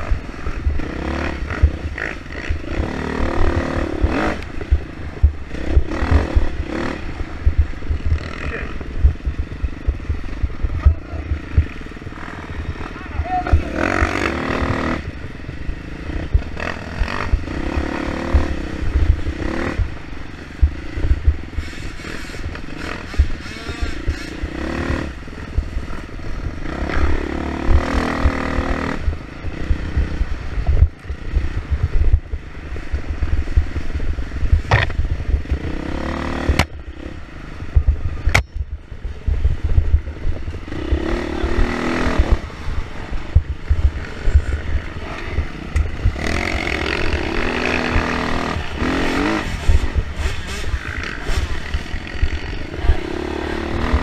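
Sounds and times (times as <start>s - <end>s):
dirt bike engine revving: 0.0s - 38.4s, 39.2s - 54.0s
rumble and clatter from ground: 0.0s - 54.0s.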